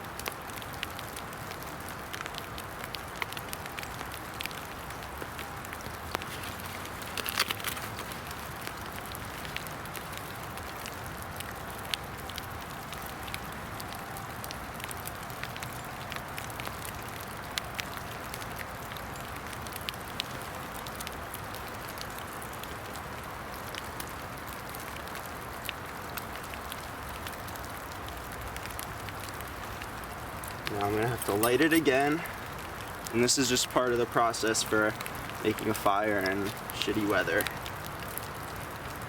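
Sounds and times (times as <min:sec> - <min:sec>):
rain hissing in woodland: 0:00.0 - 0:39.0.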